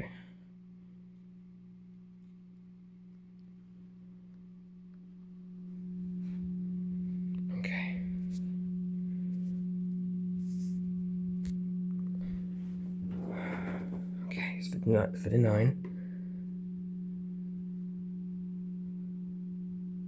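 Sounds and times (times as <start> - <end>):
low siren hum: 0.0 - 20.0.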